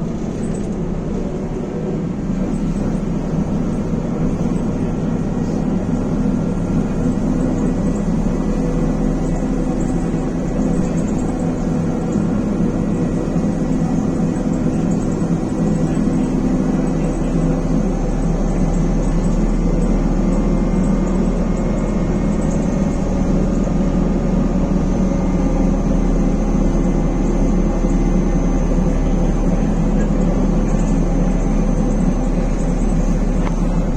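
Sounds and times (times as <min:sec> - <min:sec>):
trolleybus running and road noise: 0:00.0 - 0:33.9.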